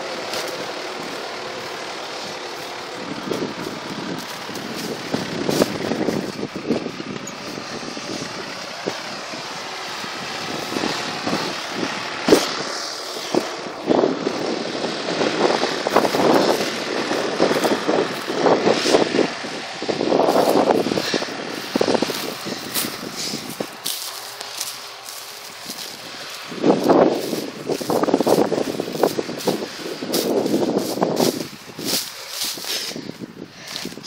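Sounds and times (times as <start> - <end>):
tractor engine running: 0.0 - 34.0
wind buffeting microphone: 2.9 - 34.0.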